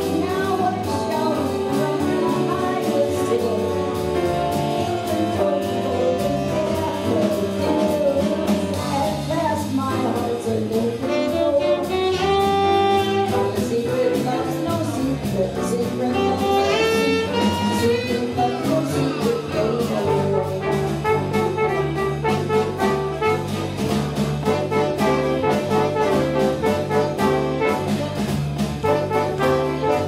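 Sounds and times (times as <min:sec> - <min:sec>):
saxophones and trumpet melody: 0:00.0 - 0:09.3, 0:11.0 - 0:14.6, 0:16.0 - 0:30.0
bass: 0:00.0 - 0:30.0
drums with cymbal beat: 0:00.0 - 0:30.0.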